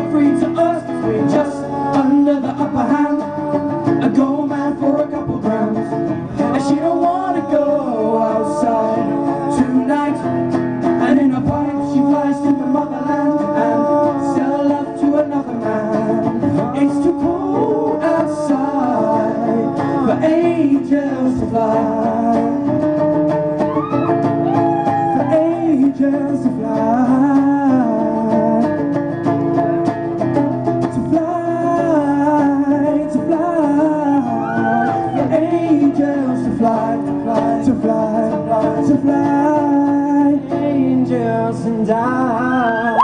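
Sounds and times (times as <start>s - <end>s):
male vocal group singing: 0.0s - 23.0s, 24.5s - 28.9s, 30.9s - 43.0s
strummed acoustic guitar: 0.0s - 43.0s.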